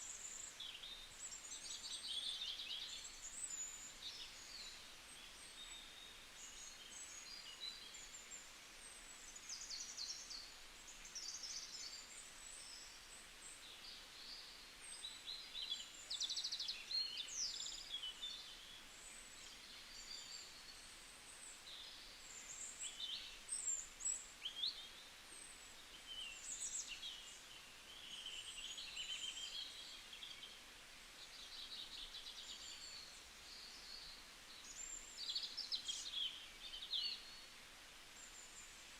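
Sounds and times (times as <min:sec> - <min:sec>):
soft steady hiss: 0:00.0 - 0:38.9.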